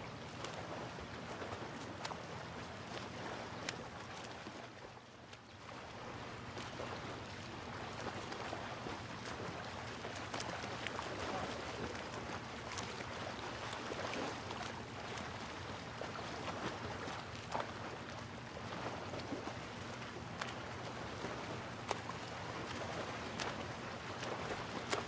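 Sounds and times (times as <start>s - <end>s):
small splashes: 0.0s - 25.0s
water lapping: 0.0s - 25.0s.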